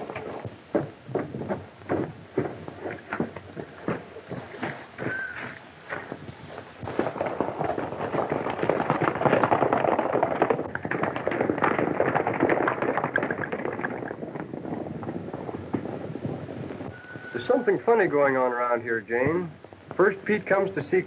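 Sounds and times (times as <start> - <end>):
horses galloping on dirt: 0.0 - 21.0.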